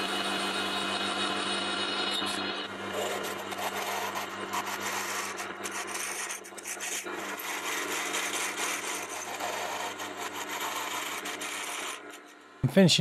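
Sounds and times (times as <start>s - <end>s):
motor hum: 0.0s - 12.7s.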